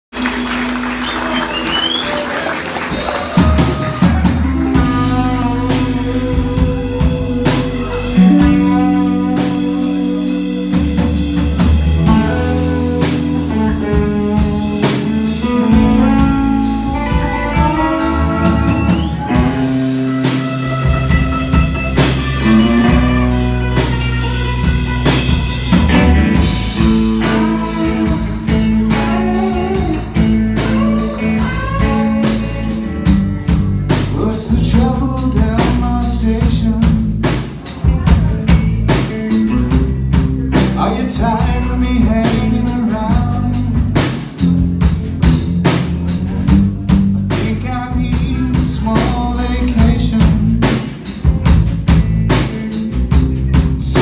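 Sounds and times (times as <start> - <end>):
electric bass: 0.0 - 54.0
drum kit: 0.1 - 54.0
electric guitars: 0.2 - 54.0.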